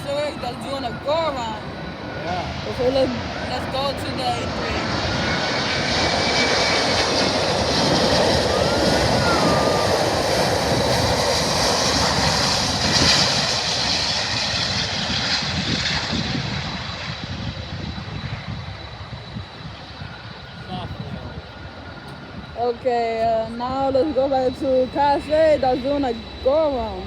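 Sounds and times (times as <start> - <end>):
jet airliners passing: 0.0 - 27.0.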